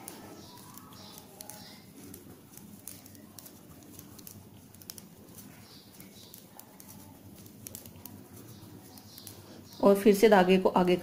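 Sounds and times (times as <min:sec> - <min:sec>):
knitting needles clicking: 0:00.0 - 0:09.9
faint background hum: 0:00.0 - 0:11.0.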